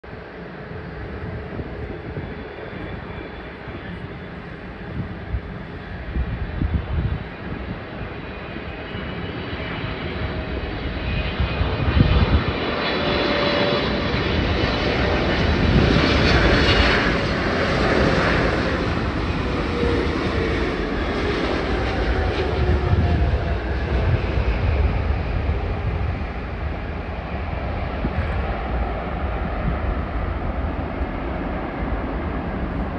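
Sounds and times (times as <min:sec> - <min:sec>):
jet airliner passing low: 0:00.0 - 0:32.9.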